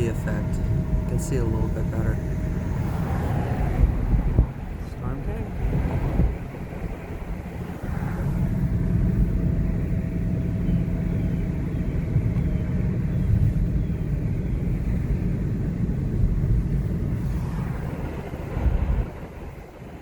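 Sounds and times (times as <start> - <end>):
car driving by rumbling: 0.0 - 20.0.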